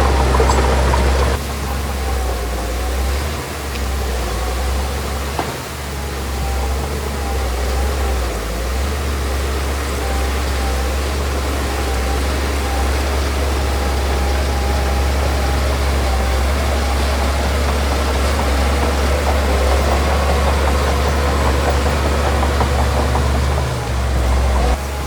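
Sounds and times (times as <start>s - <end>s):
heavy diesel machinery rumbling: 0.0s - 25.0s.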